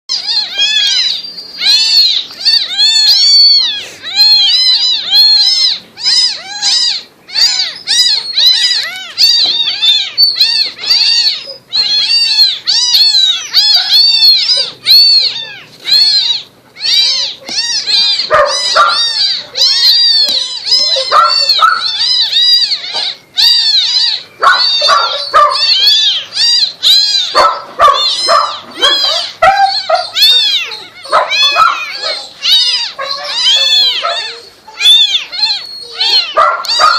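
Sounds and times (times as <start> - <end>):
kitten mewing: 0.2 - 36.9.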